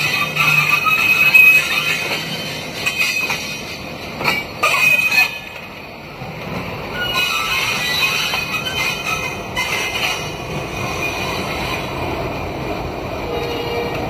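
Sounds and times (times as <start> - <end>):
locomotive wheels squealing: 0.0 - 5.9, 6.8 - 12.2.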